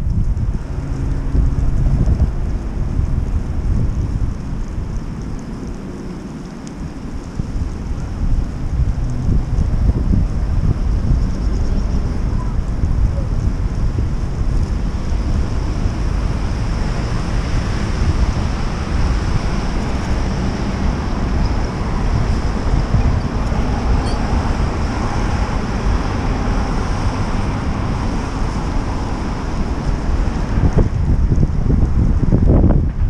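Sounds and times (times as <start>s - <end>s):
street and traffic noise: 0.0s - 33.0s
wind buffeting microphone: 0.0s - 33.0s.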